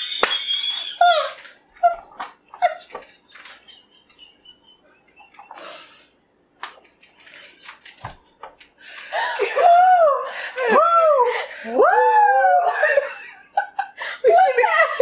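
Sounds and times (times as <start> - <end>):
women giggling breathlessly: 1.0 - 6.1, 7.2 - 11.8, 12.5 - 15.0.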